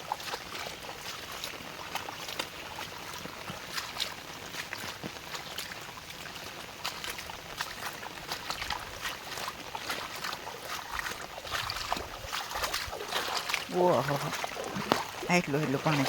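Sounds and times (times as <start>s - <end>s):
small water splashes: 0.0s - 16.0s
water running and trickling: 0.0s - 16.0s.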